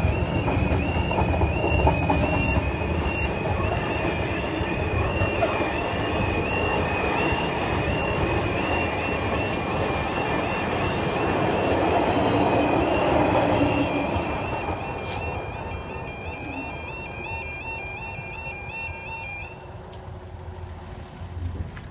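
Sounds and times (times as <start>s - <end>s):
two-tone crossing alarm: 0.0s - 20.1s
train wheels rumbling on rail: 0.0s - 21.9s.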